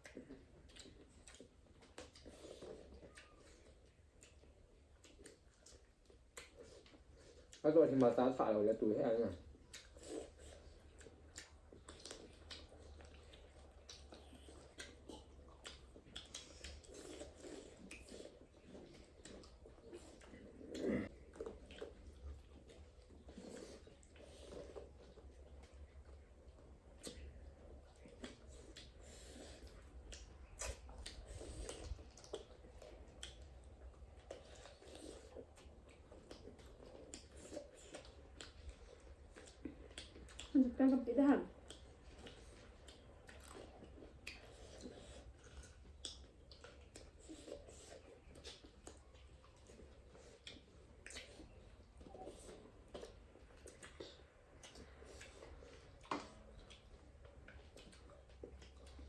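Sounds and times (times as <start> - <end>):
mouth clicks and smacks: 0.0 - 8.1, 9.4 - 40.7, 41.5 - 59.0
person chewing food: 0.0 - 8.3, 9.2 - 59.0.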